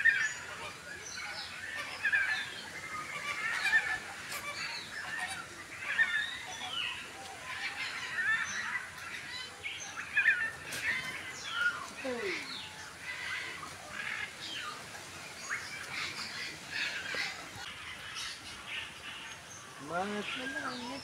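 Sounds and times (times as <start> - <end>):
birds chirping and squawking: 0.0 - 21.0.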